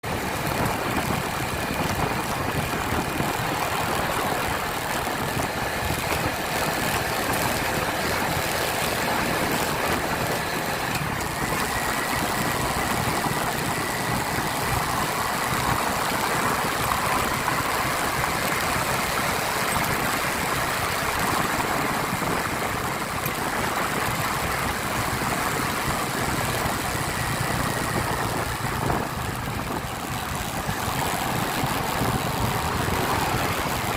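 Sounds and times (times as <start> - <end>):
motorcycle engine running: 0.0 - 33.9
rush of noise: 0.0 - 33.9.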